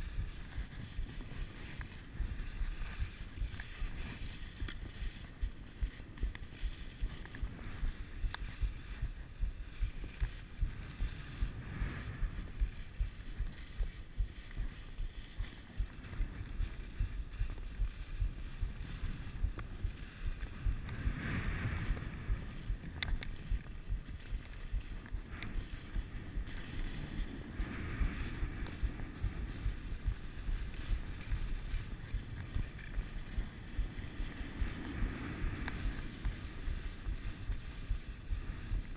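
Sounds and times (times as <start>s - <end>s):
skis running over snow: 0.0s - 38.9s
wind on microphone: 0.0s - 38.9s.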